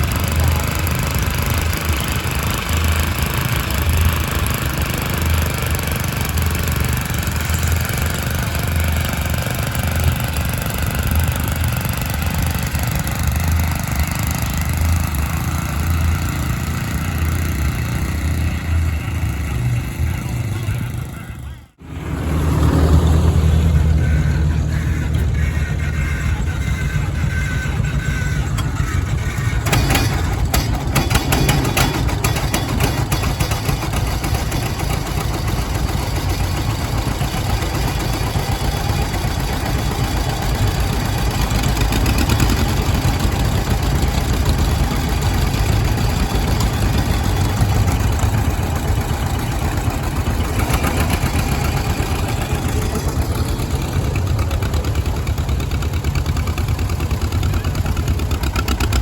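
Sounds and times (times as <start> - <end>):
engine running at low speed: 0.0 - 59.0.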